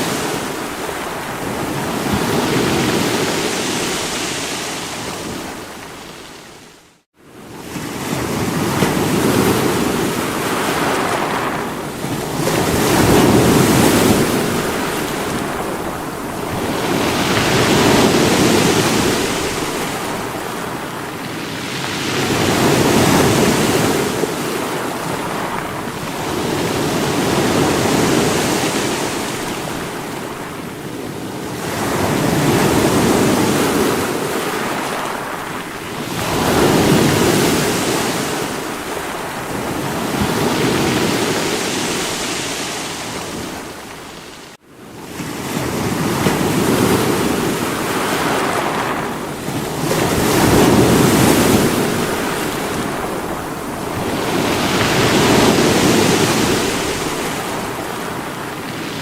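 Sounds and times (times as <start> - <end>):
sea waves breaking on rocks: 7.6 - 44.6, 45.2 - 59.0.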